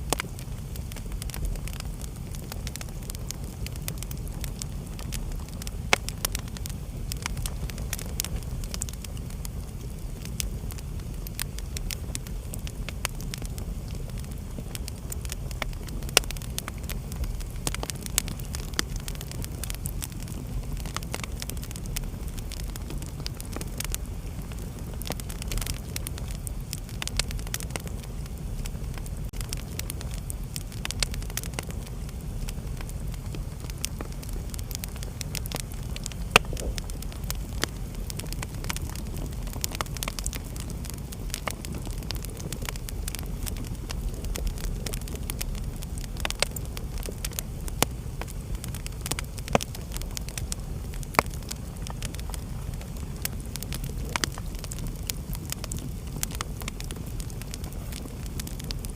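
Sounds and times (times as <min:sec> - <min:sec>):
fire crackles and pops: 0:00.0 - 0:58.9
low rumble of flames: 0:00.0 - 0:58.9.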